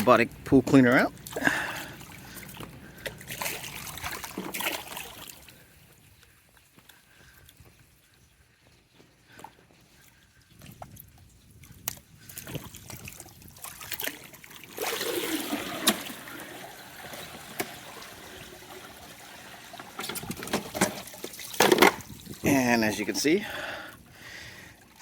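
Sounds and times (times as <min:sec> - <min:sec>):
water streaming and trickling: 0:00.0 - 0:25.0.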